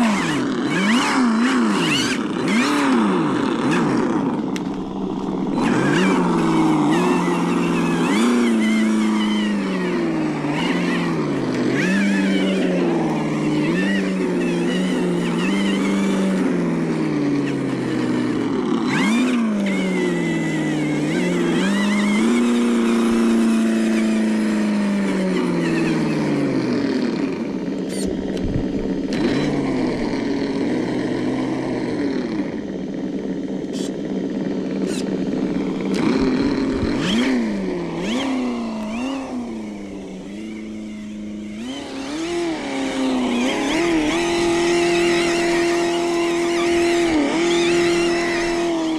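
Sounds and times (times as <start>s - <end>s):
simulated engine revving: 0.0s - 48.9s.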